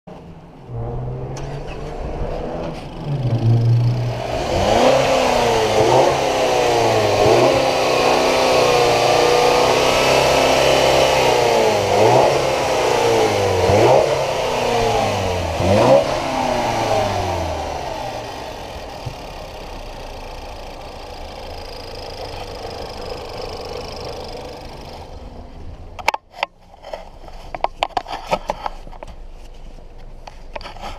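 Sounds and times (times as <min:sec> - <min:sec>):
car engine idling and revving: 0:00.1 - 0:30.8.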